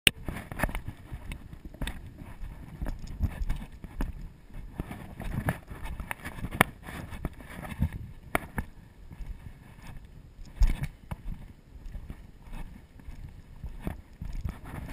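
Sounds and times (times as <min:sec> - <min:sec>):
footsteps on dirt trail: 0:00.1 - 0:14.9
microphone movement rumble: 0:00.1 - 0:14.9.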